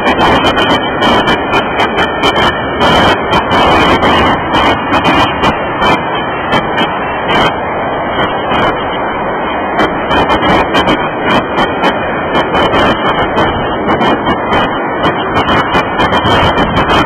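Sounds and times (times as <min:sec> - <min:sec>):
train wheels rumbling on rails: 0:00.0 - 0:17.0
wheels clicking and clacking: 0:00.0 - 0:17.0.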